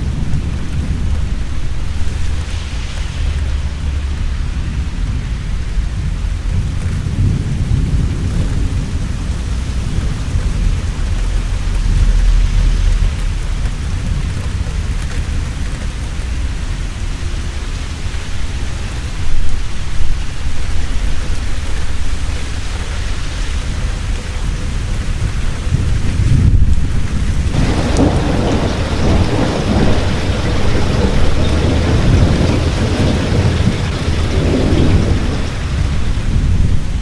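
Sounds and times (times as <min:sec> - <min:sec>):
heavy rain falling: 0:00.0 - 0:37.0
low rumble of thunder: 0:00.0 - 0:37.0.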